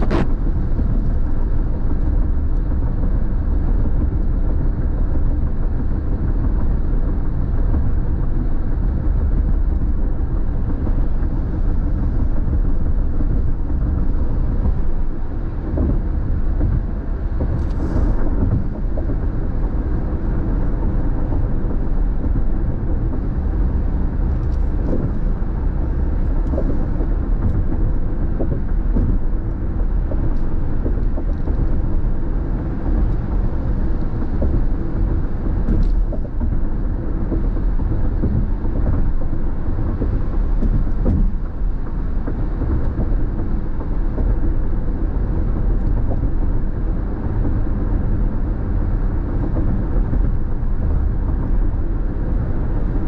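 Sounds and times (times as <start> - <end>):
road and tyre noise in car: 0.0 - 53.0.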